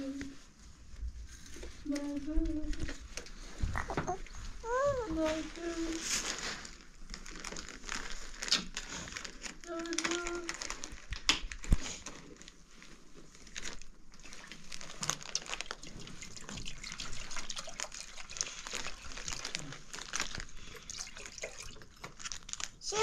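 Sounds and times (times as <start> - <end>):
rustling and crinkling: 0.0 - 23.0.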